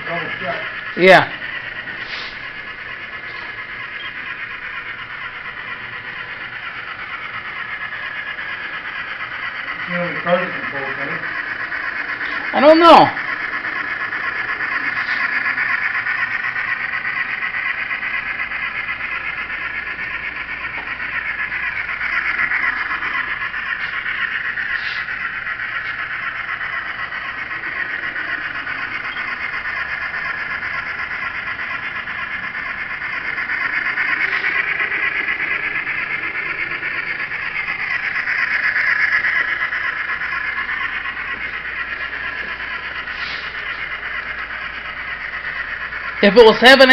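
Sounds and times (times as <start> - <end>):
model train running whine: 0.0 - 46.9.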